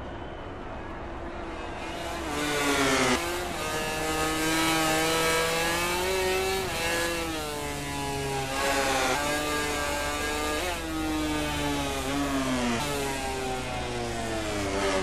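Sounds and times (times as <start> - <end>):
racing motorcycle engine revving: 1.8 - 15.0.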